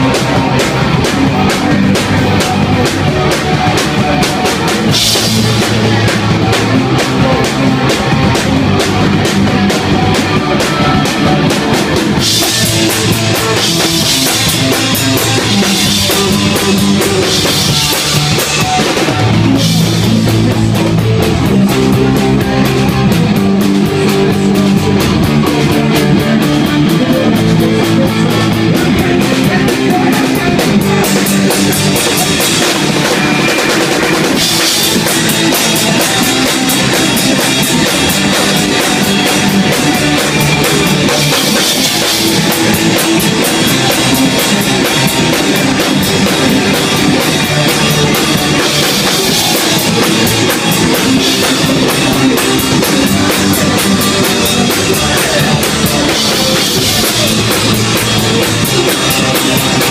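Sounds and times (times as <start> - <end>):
drum kit with cymbals: 0.0 - 59.9
electric guitar: 0.0 - 59.9.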